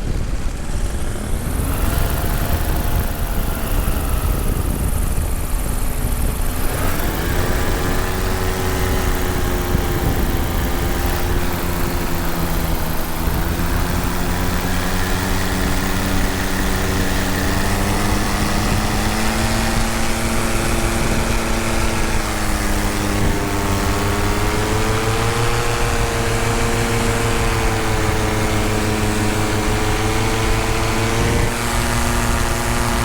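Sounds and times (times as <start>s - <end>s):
paramotor engine and propeller: 0.0s - 33.0s
wind rumble on microphone: 0.0s - 33.0s.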